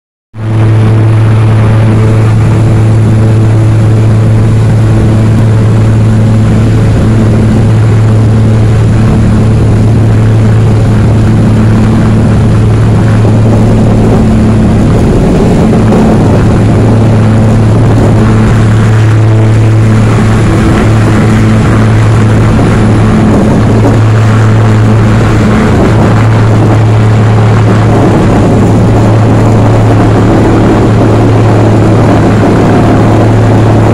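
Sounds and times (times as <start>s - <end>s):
small plane engines droning: 0.4s - 33.9s.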